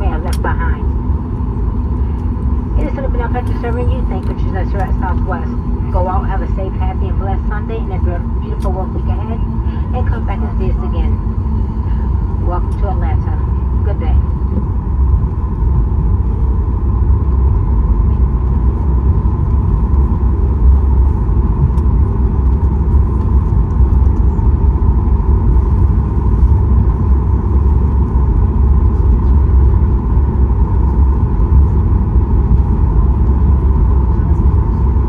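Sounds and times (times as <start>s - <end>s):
aircraft cabin low rumble: 0.0s - 35.0s.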